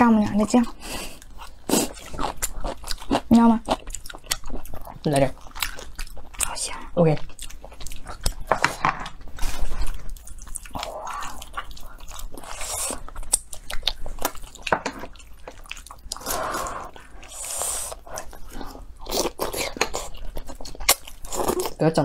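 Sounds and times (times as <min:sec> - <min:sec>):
wet chewing and biting: 0:01.2 - 0:08.7, 0:09.6 - 0:21.8.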